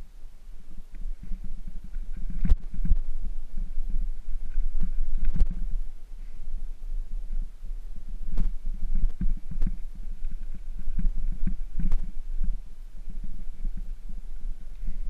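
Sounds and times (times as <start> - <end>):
bicycle rumbling over gravel: 0.7 - 15.0.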